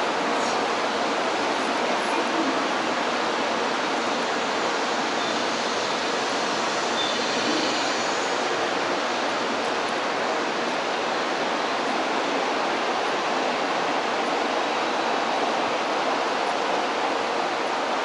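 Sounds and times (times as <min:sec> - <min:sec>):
station platform rushing noise: 0:00.0 - 0:18.0.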